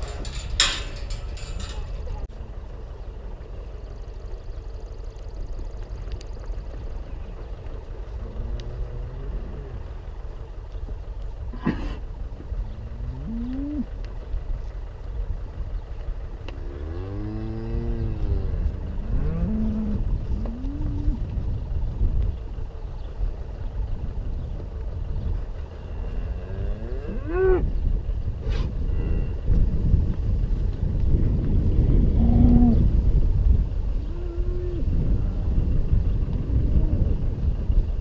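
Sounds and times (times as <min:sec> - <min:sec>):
tractor engine rumbling: 0:00.0 - 0:38.0.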